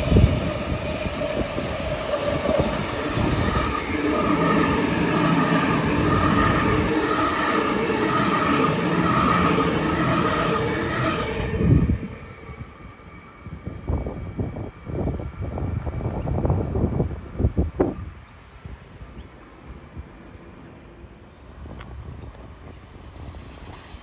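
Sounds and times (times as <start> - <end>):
distant train rumble: 0.0 - 24.0
electric train passing: 0.0 - 24.0.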